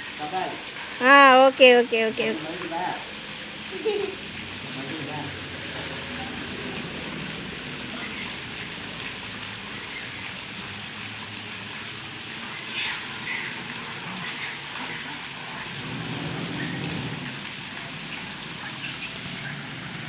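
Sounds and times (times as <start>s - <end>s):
water splashes: 0.0s - 20.0s
waterfall rushing into pool: 0.0s - 20.0s.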